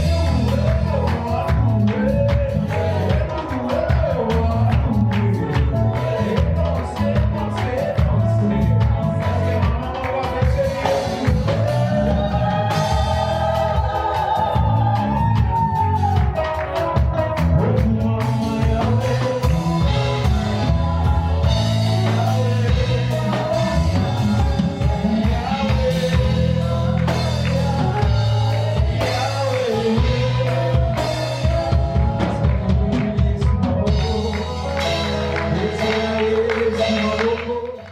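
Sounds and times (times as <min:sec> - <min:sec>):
drums: 0:00.0 - 0:37.9
low bass notes: 0:00.0 - 0:37.9.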